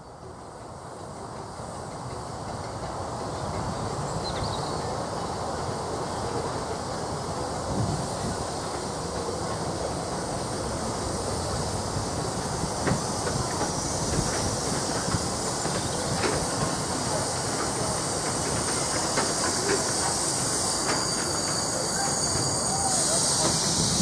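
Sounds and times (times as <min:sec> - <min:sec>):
steam locomotive hissing steam: 0:00.0 - 0:24.0
wheels clicking on track: 0:00.3 - 0:24.0.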